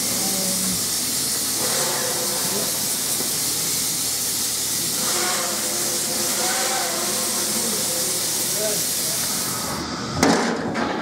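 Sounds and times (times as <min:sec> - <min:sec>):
steam hissing: 0:00.0 - 0:10.2.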